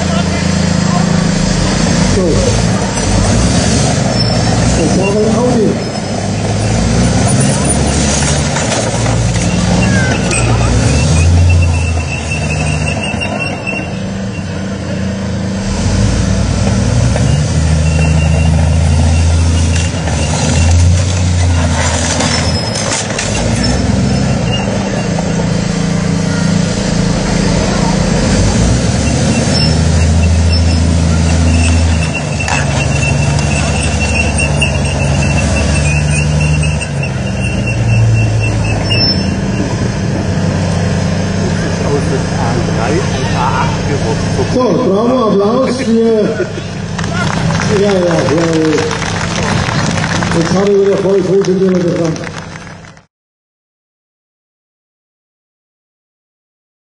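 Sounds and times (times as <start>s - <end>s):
tracked armoured vehicle engine: 0.0s - 53.1s.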